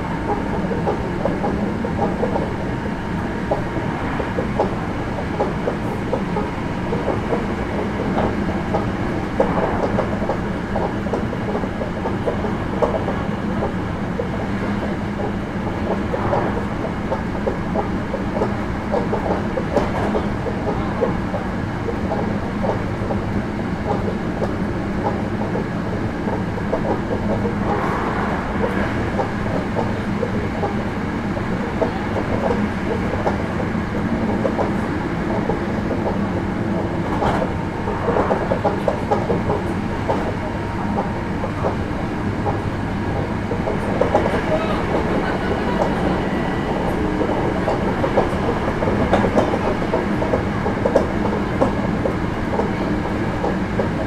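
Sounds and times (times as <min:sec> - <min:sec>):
track clicks and knocks: 0:00.0 - 0:54.0
train wheels and motors rumbling: 0:00.0 - 0:54.0.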